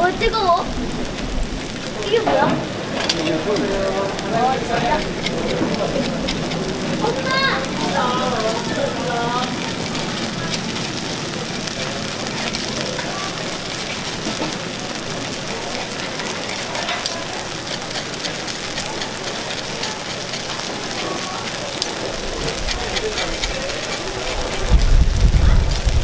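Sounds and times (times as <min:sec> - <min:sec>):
batter sizzling in oil: 0:00.0 - 0:26.0
faint voices of passers-by: 0:00.0 - 0:26.0.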